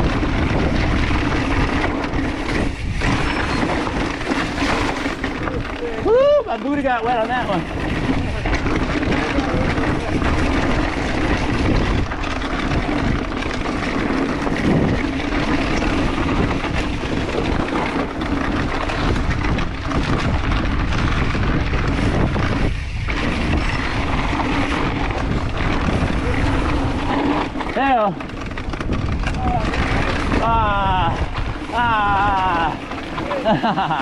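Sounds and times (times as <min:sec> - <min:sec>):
bike tyres rolling over dirt: 0:00.0 - 0:34.0
wind over microphone: 0:00.0 - 0:34.0.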